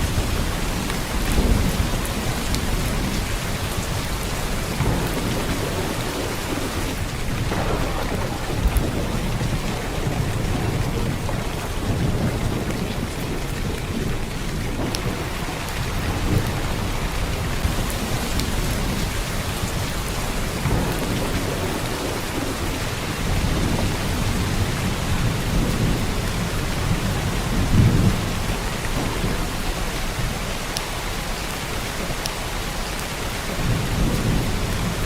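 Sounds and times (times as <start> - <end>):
heavy downpour rain: 0.0 - 35.0.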